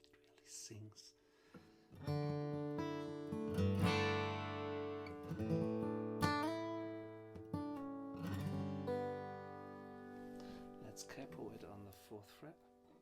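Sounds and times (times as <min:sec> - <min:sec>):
acoustic guitar strumming chords: 0:01.9 - 0:13.0
acoustic guitar single notes: 0:02.0 - 0:13.0.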